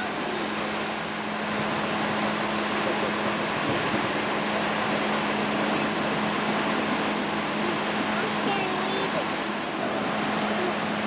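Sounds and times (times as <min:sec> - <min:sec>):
concrete mixer engine hum: 0:00.0 - 0:11.0.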